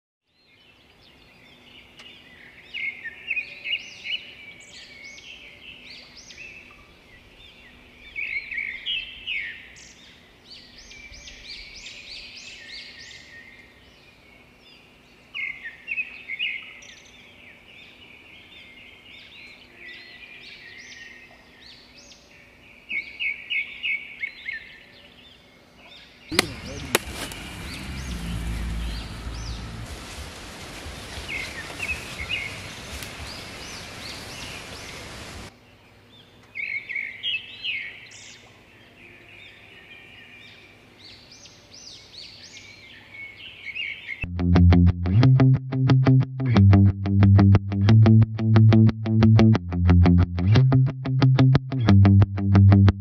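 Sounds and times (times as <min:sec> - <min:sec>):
birds chirping: 0:00.5 - 0:44.3.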